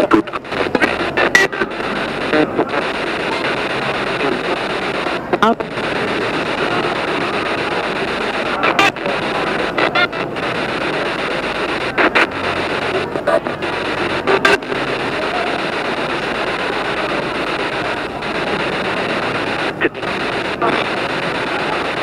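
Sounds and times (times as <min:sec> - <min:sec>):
chopped radio broadcast snippets: 0:00.0 - 0:22.0
radio static hiss: 0:00.0 - 0:22.0.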